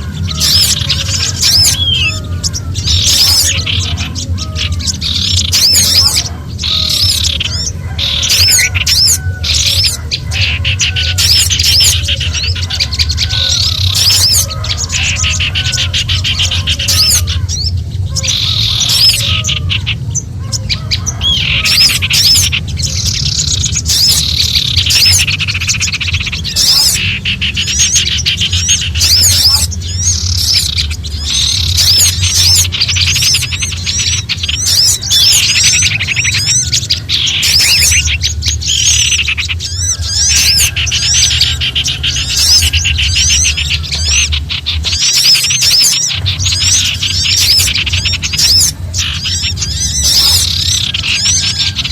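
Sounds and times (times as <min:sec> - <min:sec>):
songbirds alarm calls: 0:00.0 - 0:51.9.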